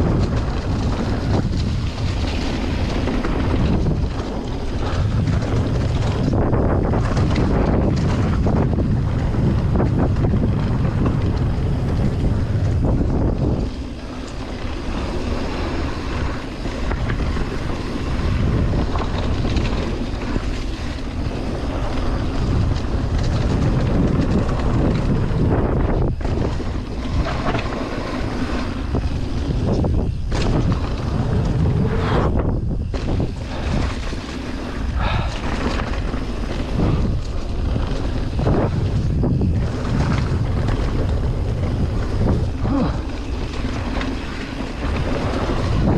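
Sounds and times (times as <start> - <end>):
bike knocks and rattles: 0.0 - 45.9
bike tyre trail noise: 0.0 - 45.9
wind buffeting microphone: 0.0 - 45.9.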